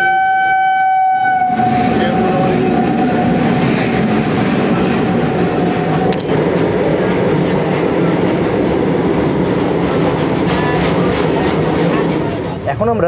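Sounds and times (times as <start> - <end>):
train wheels rumbling on rail: 1.2 - 13.0.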